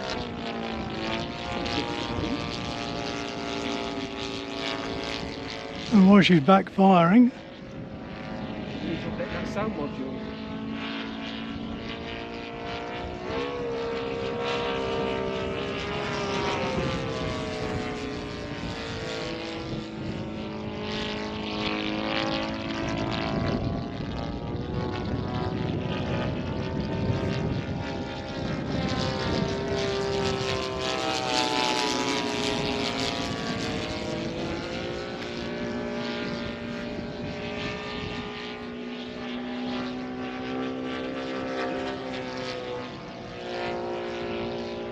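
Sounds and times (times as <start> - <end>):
model plane engine in flight: 0.0 - 44.9.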